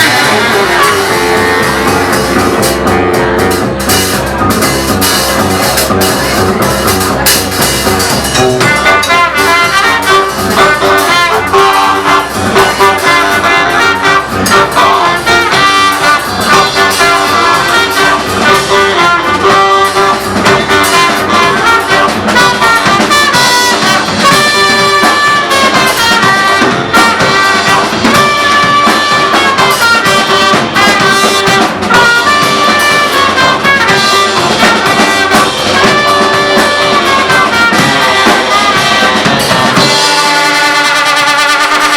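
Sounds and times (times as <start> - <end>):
horn lines: 0.0 - 41.9
live band playing: 0.0 - 41.9.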